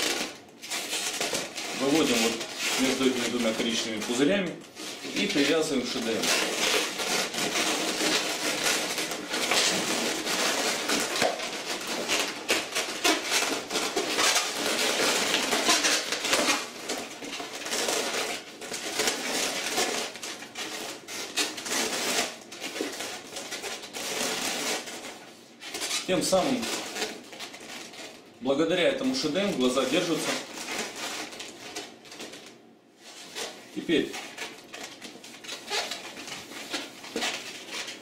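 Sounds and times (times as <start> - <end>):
balloons squeaking and rubbing: 0.0 - 38.0.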